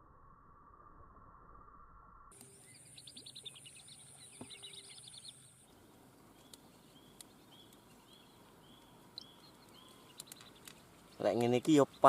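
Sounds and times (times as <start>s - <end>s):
insects chirping: 1.6s - 12.0s
birds chirping: 2.3s - 12.0s.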